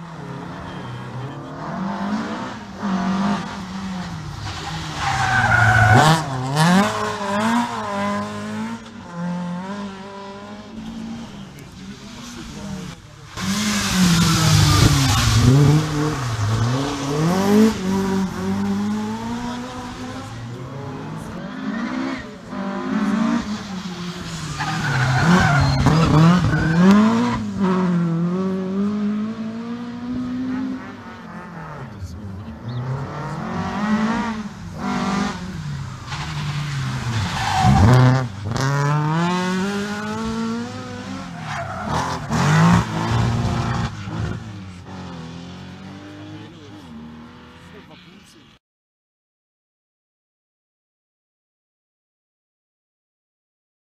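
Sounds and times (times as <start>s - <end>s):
rally cars passing at full throttle: 0.0s - 48.6s.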